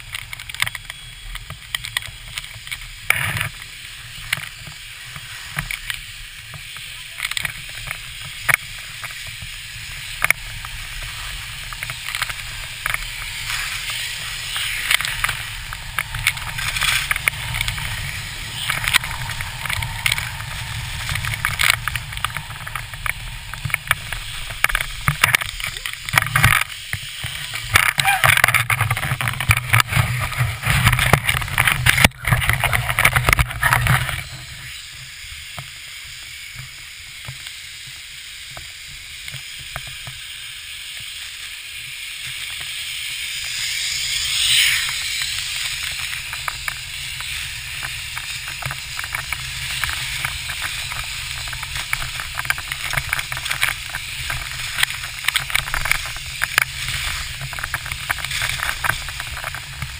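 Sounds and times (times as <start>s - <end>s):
skis sliding on snow: 0.0s - 59.9s.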